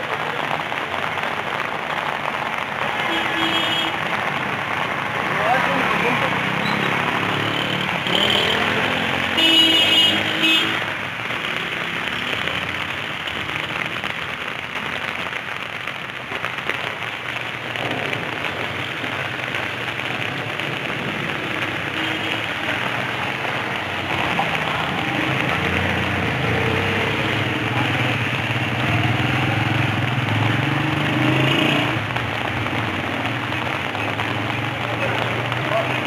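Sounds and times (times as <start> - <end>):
runoff water running over street: 0.0 - 36.0
steady rain: 0.0 - 36.0.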